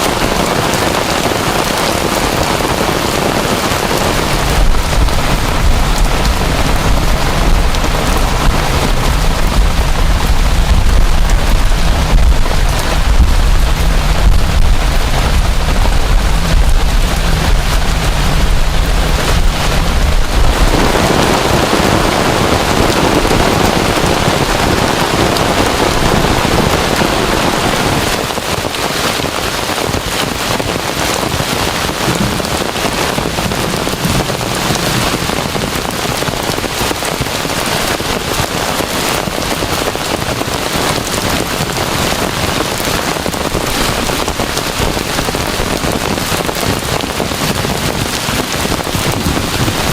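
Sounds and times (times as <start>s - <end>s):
heavy rain pouring: 0.0s - 49.9s
thunder rumble: 0.0s - 49.9s.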